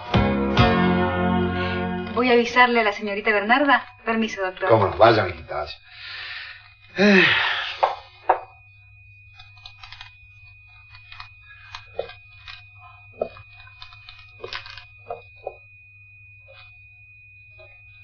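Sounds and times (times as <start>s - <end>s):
low steady hum: 1.0s - 18.0s.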